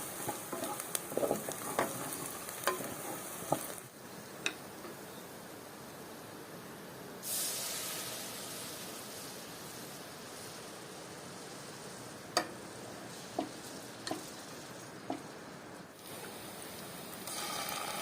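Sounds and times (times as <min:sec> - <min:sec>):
food sizzling in hot oil: 0:00.0 - 0:04.2, 0:07.2 - 0:18.0.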